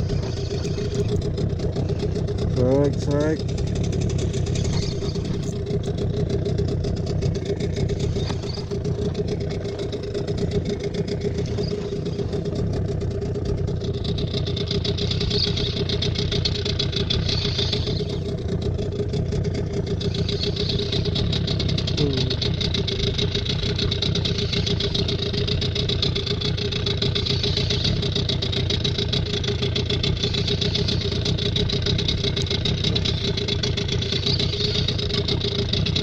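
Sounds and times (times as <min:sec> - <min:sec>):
boat motor humming: 0:00.0 - 0:36.0.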